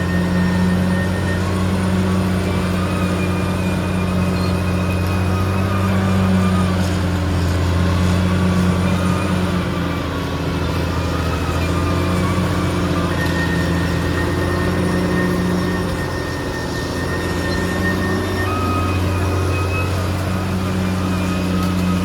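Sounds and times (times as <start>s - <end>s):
bulldozer diesel engine running: 0.0s - 22.0s
faint high whine: 0.0s - 22.0s.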